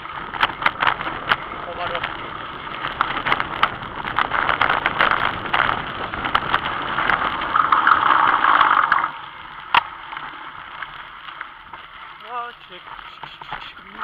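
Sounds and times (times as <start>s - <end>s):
bicycle tyres on dirt track: 0.0s - 14.0s.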